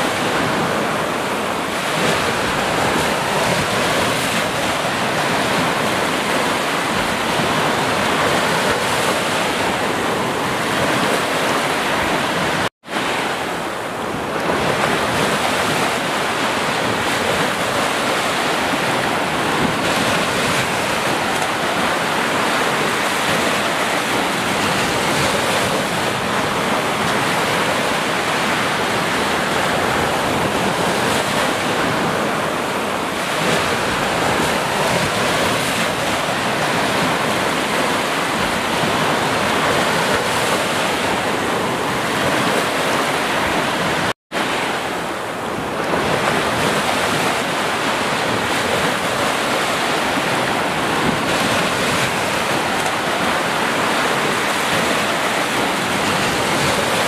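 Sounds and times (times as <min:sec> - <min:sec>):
sea waves washing up beach: 0:00.0 - 0:57.0.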